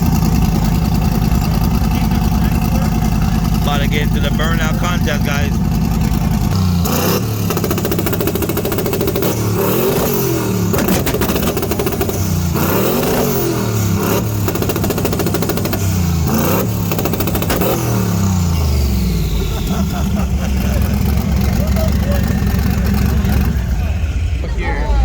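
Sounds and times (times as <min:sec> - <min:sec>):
car engine revving hard: 0:00.0 - 0:24.4.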